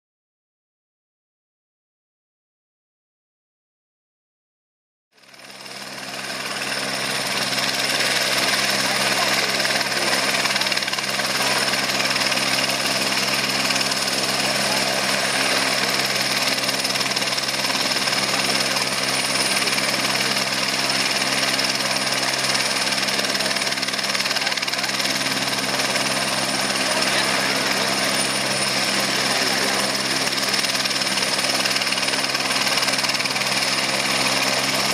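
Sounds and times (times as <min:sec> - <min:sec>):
helicopter turbine whine: 0:05.2 - 0:34.9
rotor blades beating: 0:05.3 - 0:34.9.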